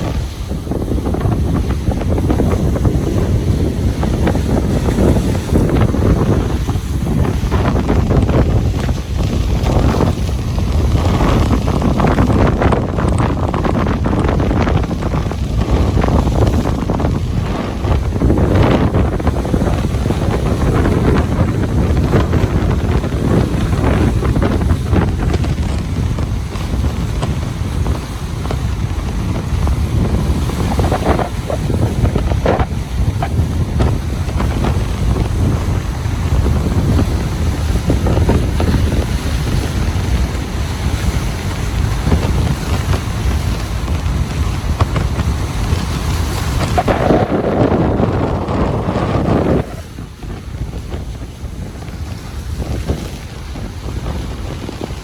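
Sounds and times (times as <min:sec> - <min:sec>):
ocean surf on beach: 0:00.0 - 0:55.0
wind buffeting microphone: 0:00.0 - 0:55.0.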